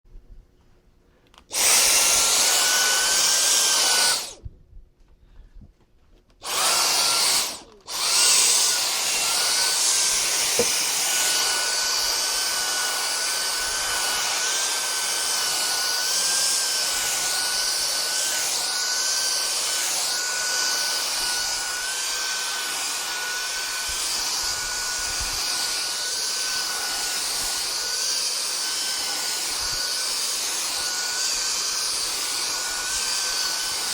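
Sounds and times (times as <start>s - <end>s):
vacuum cleaner running with high whine: 1.5s - 4.4s, 6.4s - 33.9s.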